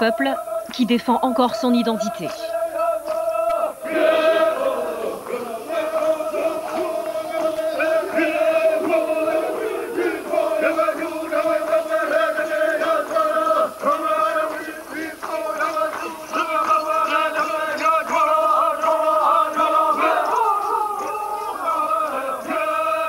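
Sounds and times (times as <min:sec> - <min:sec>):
men chanting in unison: 0:00.0 - 0:23.0.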